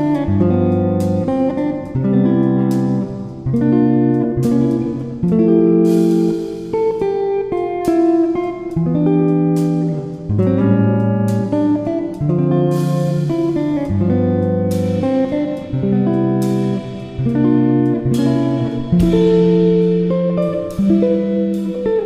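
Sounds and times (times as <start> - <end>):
plucked guitar chords: 0.0 - 22.0.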